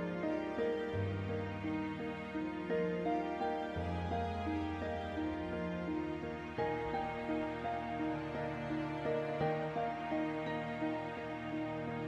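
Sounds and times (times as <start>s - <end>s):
soft slow background music: 0.0s - 12.0s.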